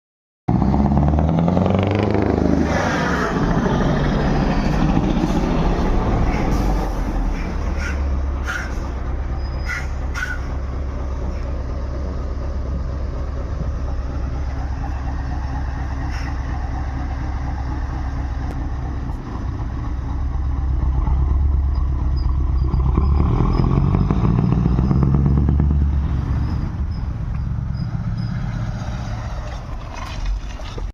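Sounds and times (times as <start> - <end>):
diesel truck engine rumbling: 0.5 - 30.9.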